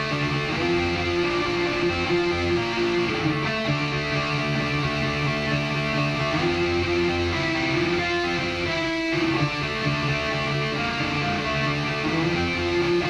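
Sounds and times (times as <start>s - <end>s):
electric guitar sustained chords: 0.0s - 13.0s.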